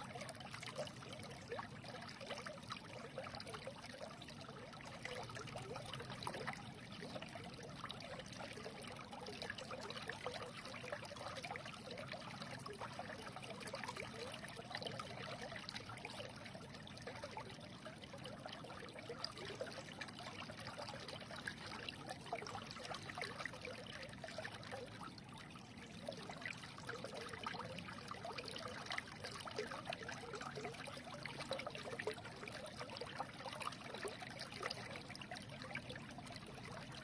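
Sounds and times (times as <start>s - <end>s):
stream trickling over stones: 0.0s - 37.0s.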